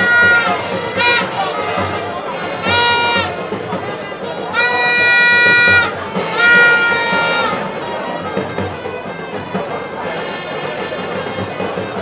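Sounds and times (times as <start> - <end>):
crowd noise: 0.0 - 12.0
horn blasts: 0.0 - 12.0
music from stands: 0.0 - 12.0.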